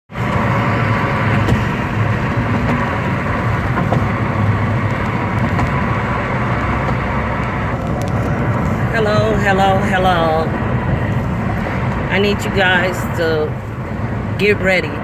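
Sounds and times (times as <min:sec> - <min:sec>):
car engine and road noise: 0:00.1 - 0:15.0.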